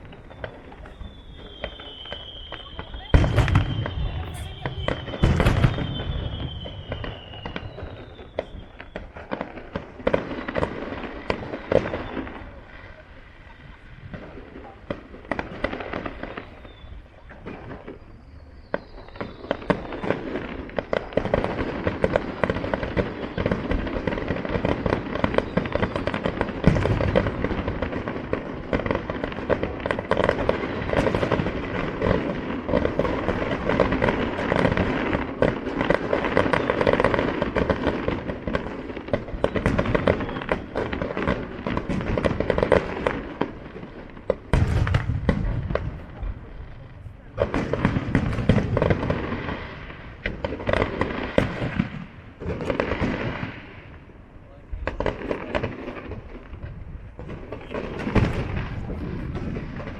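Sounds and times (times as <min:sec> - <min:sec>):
deep firework booms: 0:00.0 - 0:54.1, 0:54.7 - 0:59.9
fireworks popping and crackling: 0:00.0 - 0:59.9.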